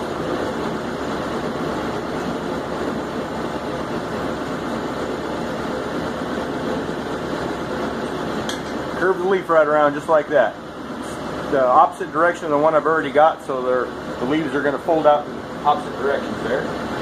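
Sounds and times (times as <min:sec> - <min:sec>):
forge burner roaring: 0:00.0 - 0:17.0.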